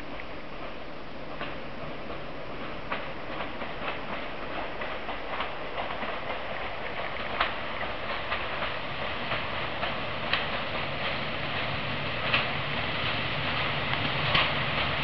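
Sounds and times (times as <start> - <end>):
railcar rumble: 0.0 - 15.0
wheels clicking over rail joints: 0.0 - 15.0.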